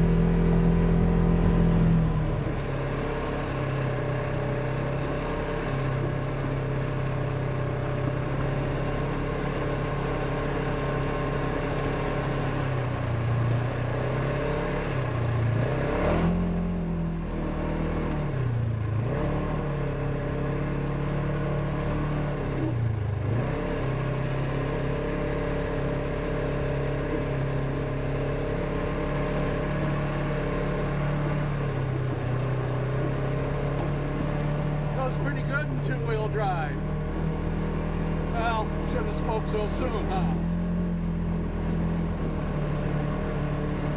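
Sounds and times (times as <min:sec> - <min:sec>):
off-road vehicle engine running: 0:00.0 - 0:43.9.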